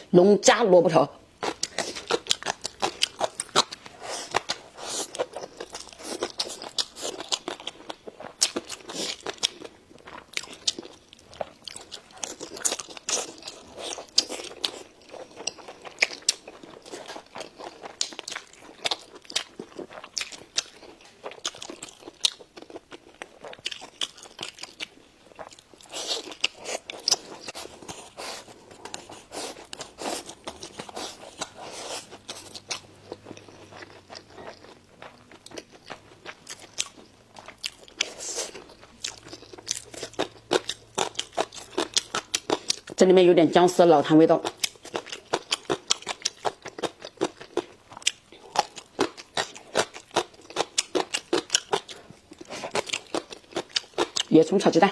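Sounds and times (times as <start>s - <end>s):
crunching and chewing: 1.4s - 43.0s, 44.4s - 54.3s.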